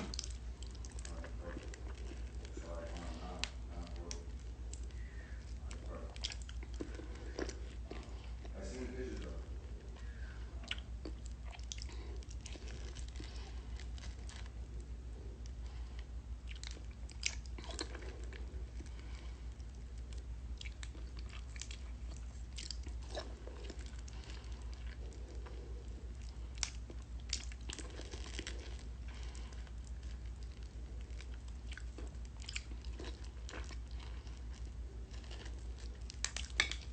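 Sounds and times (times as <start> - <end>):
wet chewing and mouth smacks: 0.0 - 8.6, 9.2 - 36.9
low hum: 0.0 - 36.9.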